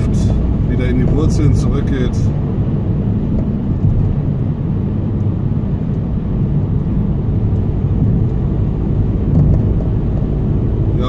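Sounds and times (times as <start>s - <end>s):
car driving from inside: 0.0s - 11.0s.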